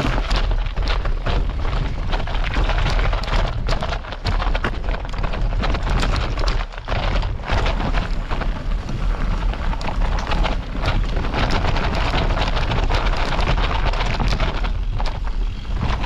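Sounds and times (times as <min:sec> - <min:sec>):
bike tyres and parts rattling: 0:00.0 - 0:16.0
wind buffeting microphone: 0:00.0 - 0:16.0.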